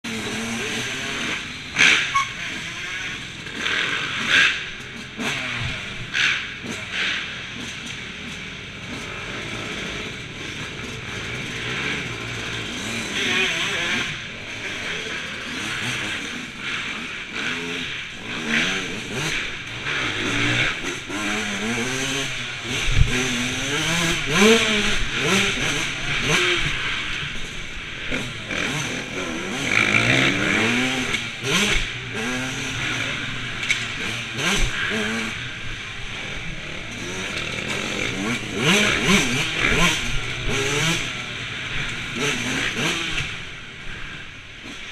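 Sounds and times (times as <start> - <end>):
motocross bikes revving: 0.1 - 44.9.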